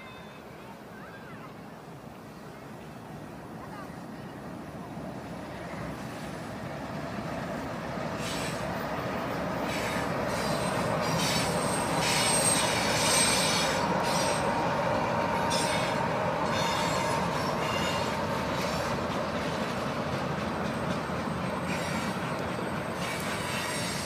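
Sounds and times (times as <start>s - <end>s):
freight train rolling past: 1.8s - 24.0s
steel wheels squealing on rails: 3.8s - 24.0s.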